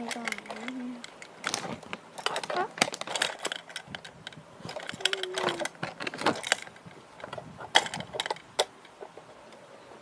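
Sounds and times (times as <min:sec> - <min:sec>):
plastic toy clicks and knocks: 0:00.0 - 0:09.2.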